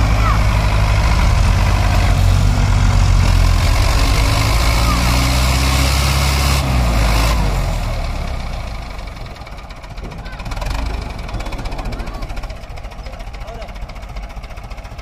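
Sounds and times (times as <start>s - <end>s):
second tractor engine running: 0.0s - 15.0s
tractor engine working hard: 0.0s - 15.0s.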